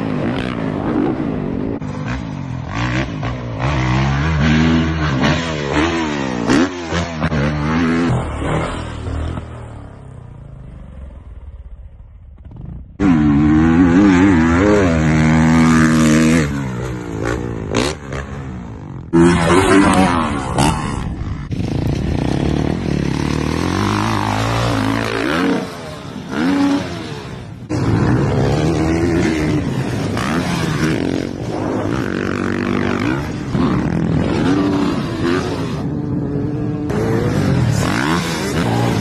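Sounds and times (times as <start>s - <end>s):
dirt bike engines revving: 0.0s - 11.3s, 12.4s - 39.0s.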